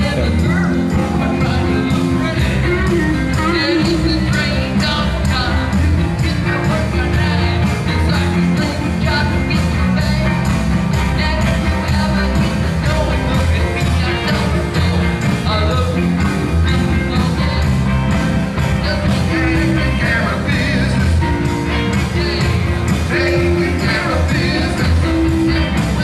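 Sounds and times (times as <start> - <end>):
drums: 0.0 - 26.0
electric guitars: 0.0 - 26.0
man singing: 0.0 - 26.0.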